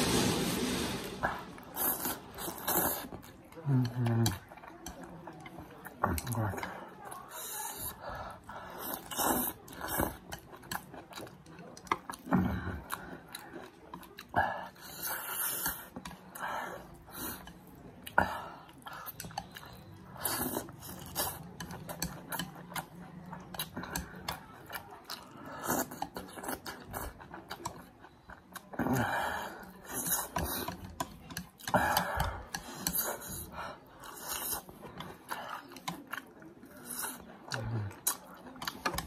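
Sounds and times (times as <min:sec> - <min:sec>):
person chewing noodles: 0:01.8 - 0:06.7, 0:07.3 - 0:39.0.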